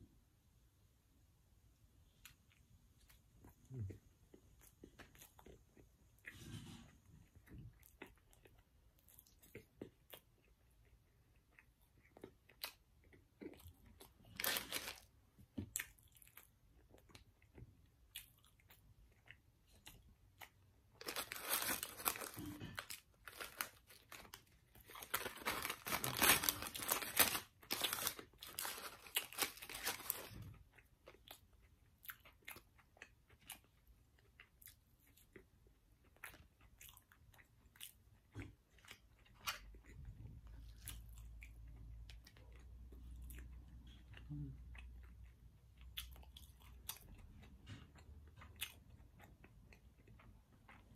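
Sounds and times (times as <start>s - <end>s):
chewing and crunching food: 2.1s - 50.9s.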